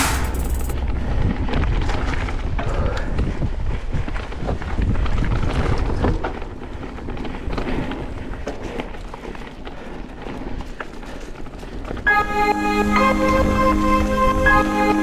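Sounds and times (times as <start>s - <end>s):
bike rattling on dirt trail: 0.0s - 12.1s
wind buffeting microphone: 0.0s - 12.2s.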